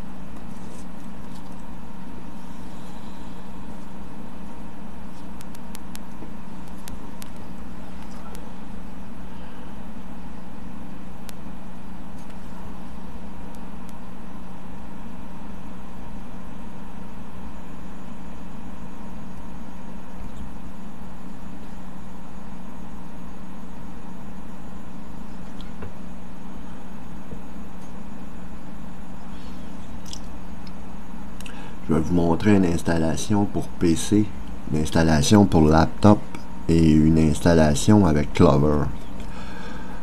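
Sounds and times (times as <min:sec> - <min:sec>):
machine hum with high whine: 0:00.0 - 0:40.0.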